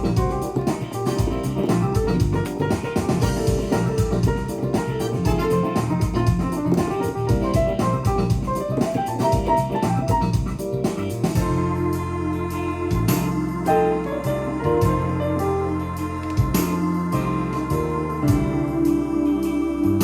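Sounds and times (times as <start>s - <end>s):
drums bass and guitar accompaniment: 0.0s - 20.0s
keyboard melody: 0.0s - 20.0s.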